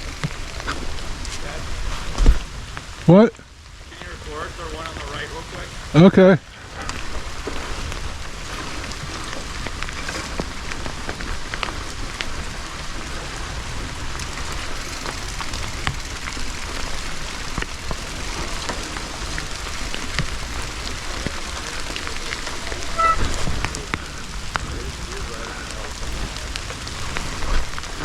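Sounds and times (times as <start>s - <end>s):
low even rumble: 0.0s - 28.0s
rain pattering: 0.0s - 28.0s.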